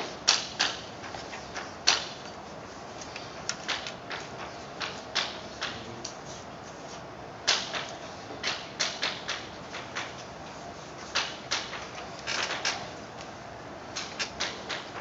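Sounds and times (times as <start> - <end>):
chalk tapping and scratching: 0.0 - 12.6.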